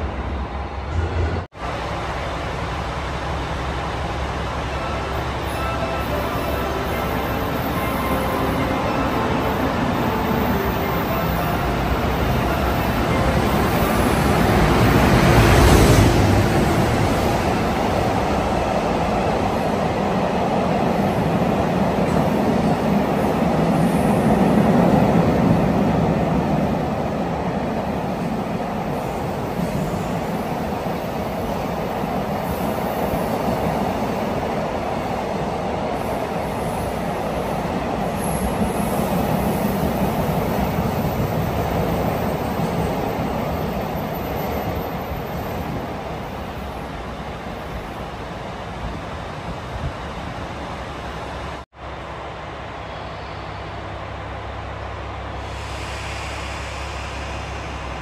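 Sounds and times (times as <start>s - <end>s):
electric locomotive passing: 0.0s - 58.0s
freight train rumbling past: 0.0s - 58.0s.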